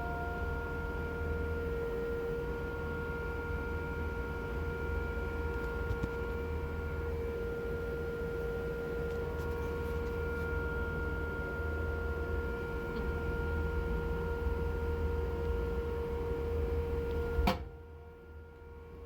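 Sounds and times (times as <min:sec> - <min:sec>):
constant whine: 0:00.0 - 0:19.0.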